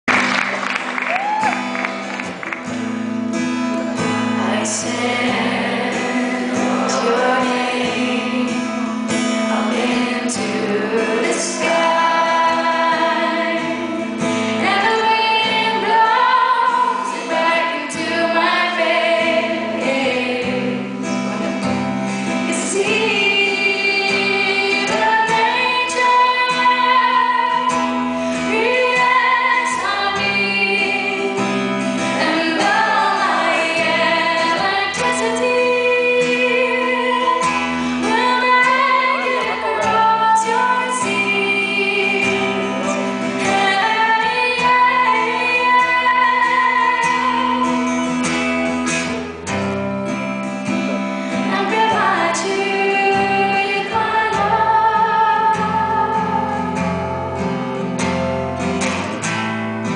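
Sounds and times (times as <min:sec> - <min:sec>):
acoustic guitar: 0:00.0 - 0:59.9
woman singing: 0:04.0 - 0:21.2, 0:22.3 - 0:48.1, 0:51.3 - 0:56.9.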